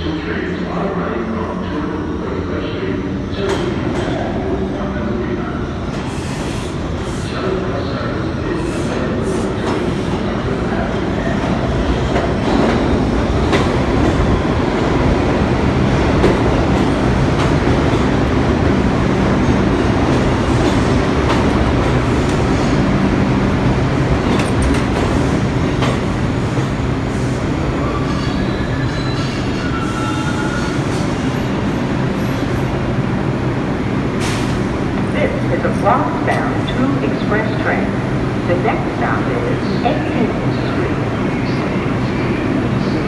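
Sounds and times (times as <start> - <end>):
subway train rumbling on tracks: 0.0 - 43.0.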